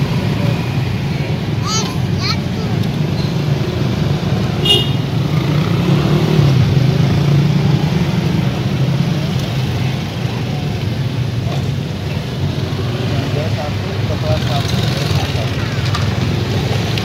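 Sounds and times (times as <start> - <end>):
passing vehicle engines rumbling: 0.0 - 17.0.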